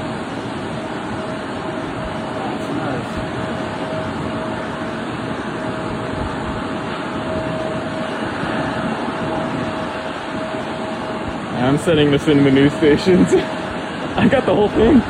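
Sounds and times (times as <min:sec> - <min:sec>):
aircraft engine roar: 0:00.0 - 0:15.0
thin steady whine: 0:00.0 - 0:15.0.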